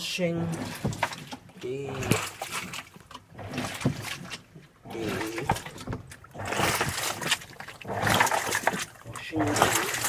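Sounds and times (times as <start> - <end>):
washing machine churning water: 0.0 - 10.0.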